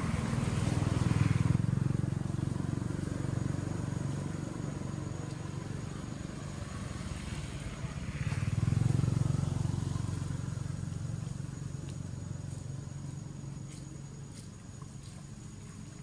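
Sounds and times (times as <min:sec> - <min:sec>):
vehicle engine rumble passing: 0:00.0 - 0:16.0.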